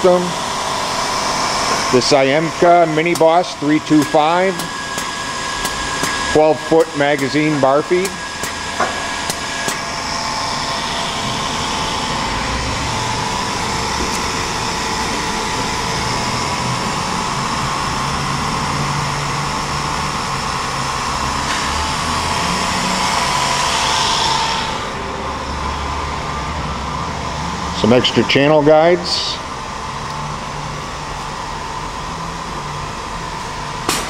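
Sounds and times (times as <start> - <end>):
machine whirring: 0.0 - 34.0.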